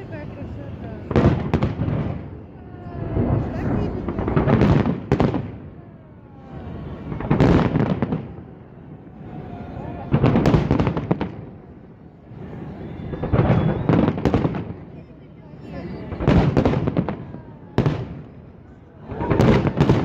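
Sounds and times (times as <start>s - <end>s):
crowd voices: 0.0s - 20.0s
fireworks bangs and crackles: 0.0s - 20.0s.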